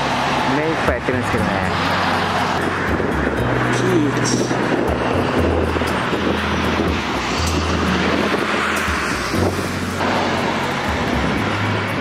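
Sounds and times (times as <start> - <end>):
jet engines rushing: 0.0 - 12.0
music bass line: 0.5 - 12.0.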